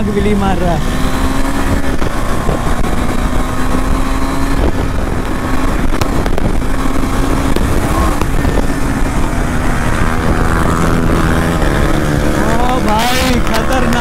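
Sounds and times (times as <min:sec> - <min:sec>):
motorcycle engine rumbling: 0:00.0 - 0:14.0
wind rushing over microphone: 0:00.0 - 0:14.0.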